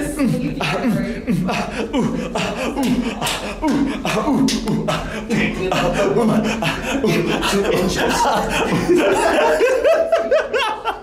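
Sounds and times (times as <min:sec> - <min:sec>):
person beatboxing: 0:00.0 - 0:09.0.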